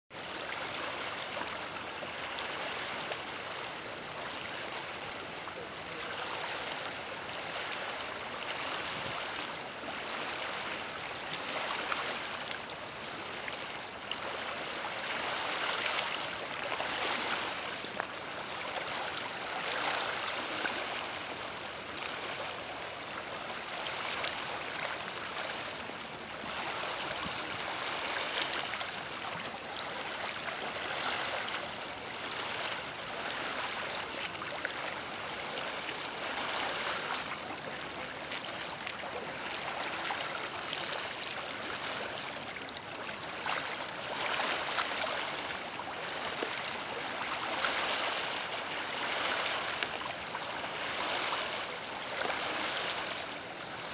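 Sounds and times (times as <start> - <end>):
small waves lapping on pebbles: 0.2 - 53.7.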